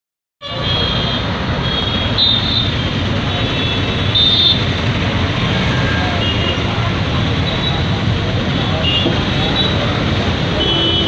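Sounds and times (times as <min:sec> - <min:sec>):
road noise: 0:00.4 - 0:11.0
traffic engine rumble: 0:00.4 - 0:11.0.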